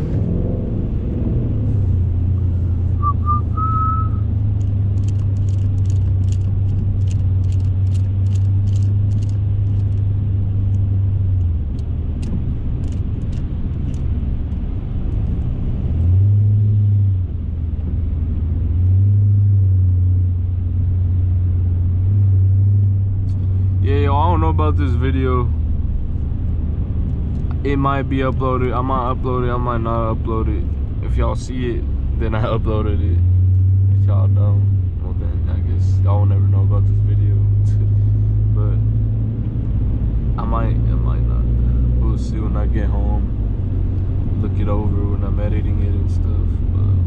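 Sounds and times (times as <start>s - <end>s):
car engine and road noise: 0.0s - 47.0s.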